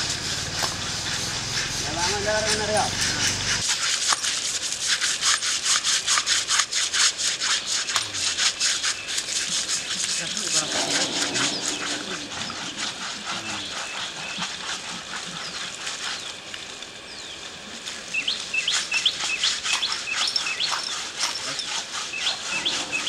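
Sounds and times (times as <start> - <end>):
birds chirping: 0.0 - 3.6, 7.6 - 23.0
hand scrubbing: 0.0 - 16.6, 17.8 - 23.0
water splashing from hose: 0.0 - 23.0.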